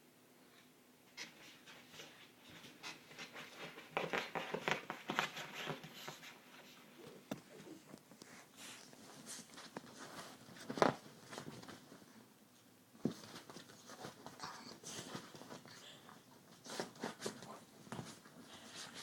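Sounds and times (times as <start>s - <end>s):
puppy scratching and rustling: 1.2s - 12.1s, 13.0s - 19.0s.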